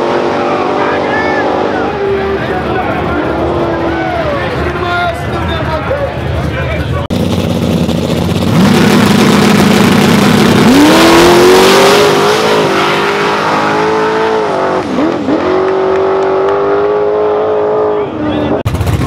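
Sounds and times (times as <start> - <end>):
drag race car engine revving: 0.0 - 19.0.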